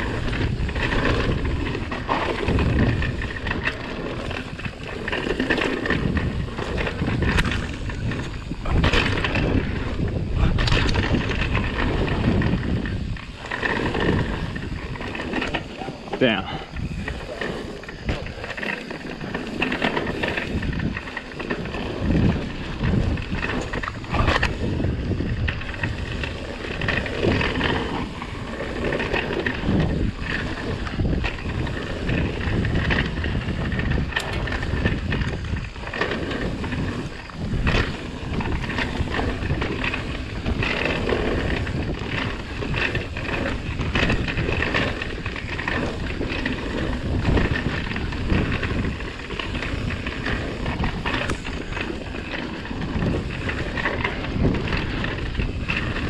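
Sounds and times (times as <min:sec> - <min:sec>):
bike rattling and knocking: 0:00.0 - 0:56.0
tyres on loose dirt: 0:00.0 - 0:56.0
wind buffeting microphone: 0:00.0 - 0:56.0.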